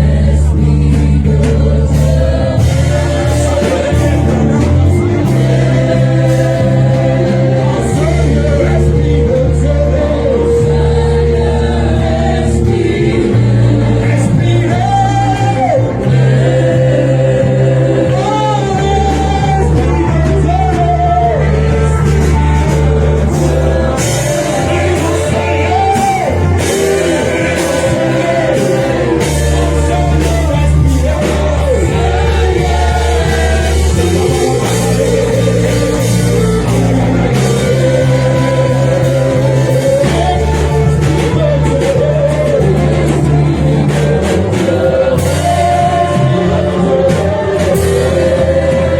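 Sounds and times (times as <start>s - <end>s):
people singing: 0.0s - 48.9s
worship music with band: 0.0s - 48.9s.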